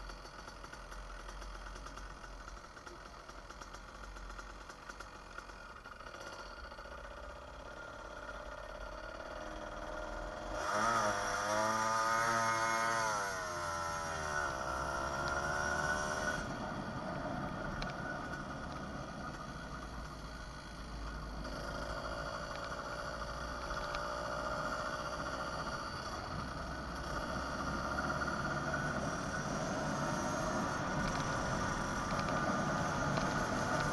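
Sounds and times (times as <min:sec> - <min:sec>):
two-stroke bicycle engine running: 0:00.0 - 0:33.9.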